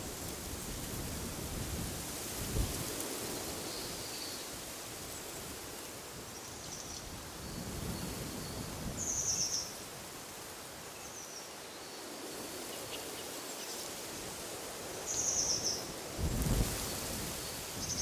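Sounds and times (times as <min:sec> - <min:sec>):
wind rustling through trees: 0:00.0 - 0:18.0.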